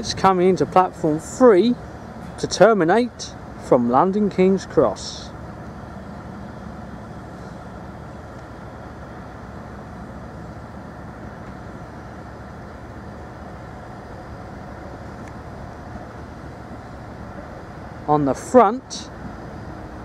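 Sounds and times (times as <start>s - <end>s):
electric train running slowly: 0.0s - 20.0s.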